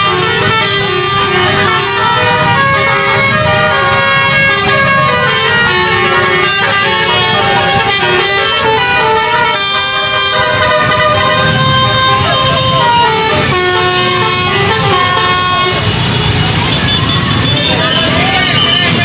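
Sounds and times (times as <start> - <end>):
bus horn playing a tune: 0.0 - 19.0.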